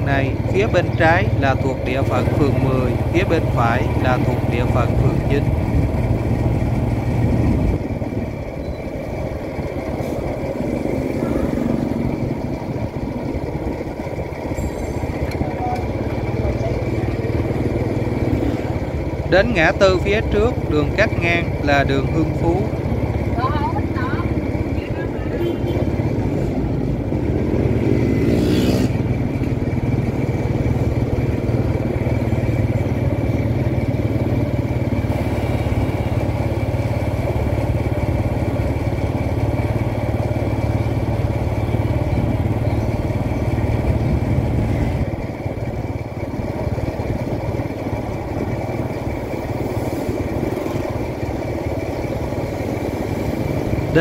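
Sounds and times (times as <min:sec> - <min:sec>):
motorbike engine running: 0:00.0 - 0:54.0.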